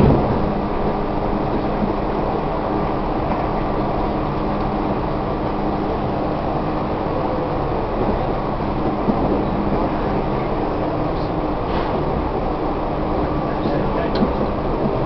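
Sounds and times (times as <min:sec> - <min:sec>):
low motor hum: 0:00.0 - 0:15.0
train wheels rumbling on rail: 0:00.0 - 0:15.0.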